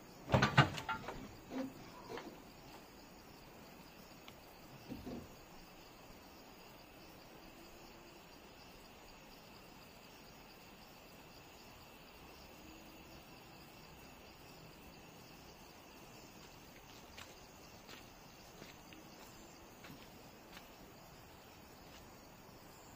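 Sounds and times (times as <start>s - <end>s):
insects chirring: 0.0s - 22.9s.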